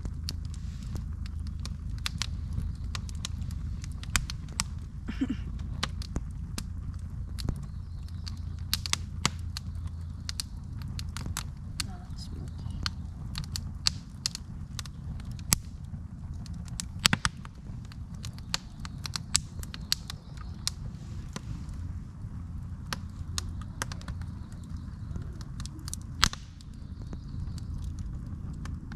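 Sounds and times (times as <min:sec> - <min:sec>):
campfire crackling and popping: 0:00.0 - 0:28.9
steady low rumble: 0:00.0 - 0:28.9.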